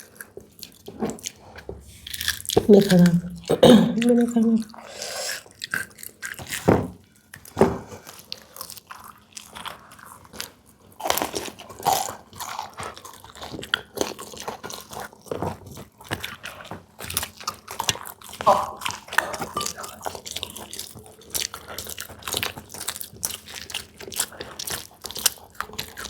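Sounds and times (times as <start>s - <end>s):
chewing crunchy fried pastry: 0.0s - 26.0s.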